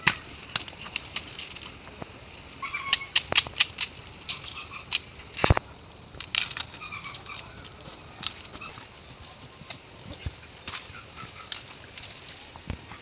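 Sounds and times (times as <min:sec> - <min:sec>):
dry plants snapping: 0:00.0 - 0:13.0.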